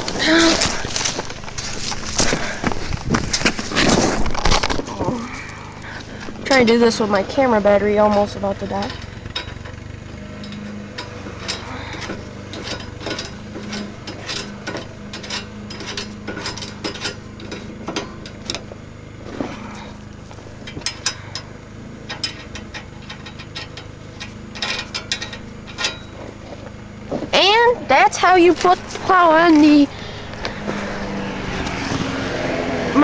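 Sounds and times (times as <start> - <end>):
steady low hum: 0.0 - 32.2.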